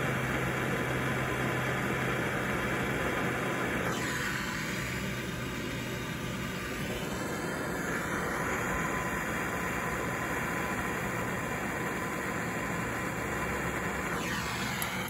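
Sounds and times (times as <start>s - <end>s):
torch flame hissing: 0.0s - 15.0s.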